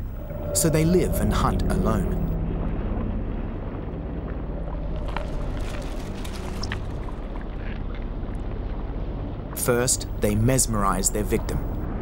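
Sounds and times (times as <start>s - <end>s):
crackles and clicks: 0.0s - 12.0s
underwater low rumble: 0.0s - 12.0s.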